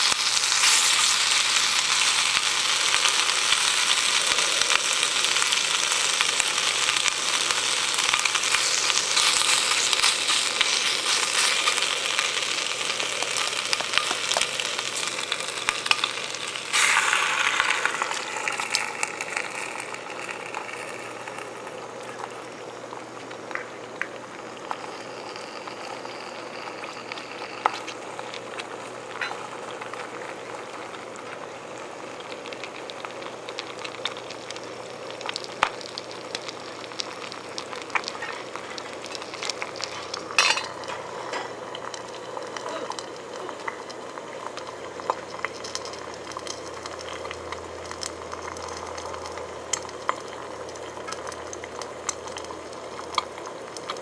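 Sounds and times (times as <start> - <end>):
bacon sizzling in a skillet: 0.0 - 54.0
egg sizzling in hot fat: 0.0 - 54.0.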